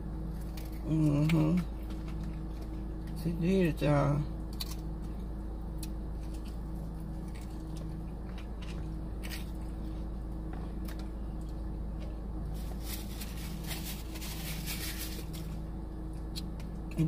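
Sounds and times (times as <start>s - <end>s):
steady low hum: 0.0s - 17.0s
chewing and biting food: 0.2s - 3.2s, 4.4s - 17.0s.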